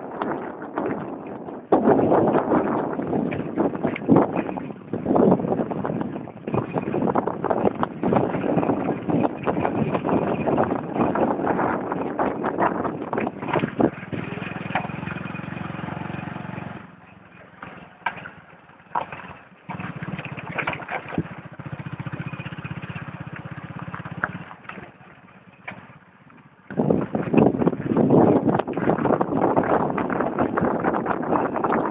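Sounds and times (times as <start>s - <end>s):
motorcycle engine running: 0.0s - 31.9s
sharp knocks and rattles: 0.1s - 31.9s.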